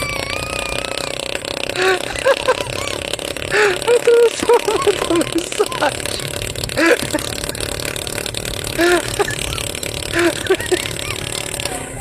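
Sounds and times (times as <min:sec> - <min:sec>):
motor running: 0:00.0 - 0:12.0
people calling and shouting: 0:00.0 - 0:12.0.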